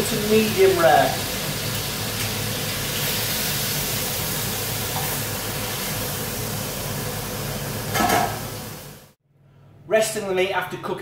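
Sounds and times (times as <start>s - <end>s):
steaks sizzling in a frying pan: 0.0s - 9.0s.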